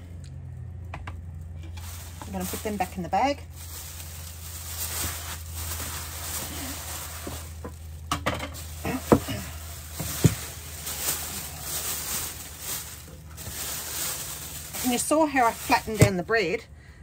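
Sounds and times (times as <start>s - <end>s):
plastic bag rustling: 1.6s - 16.5s.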